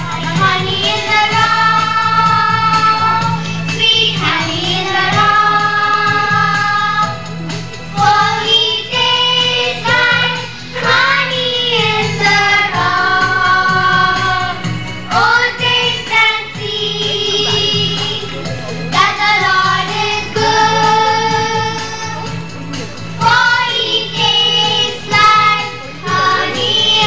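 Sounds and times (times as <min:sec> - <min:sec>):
several voices singing: 0:00.2 - 0:07.2, 0:08.0 - 0:22.5, 0:23.1 - 0:27.0.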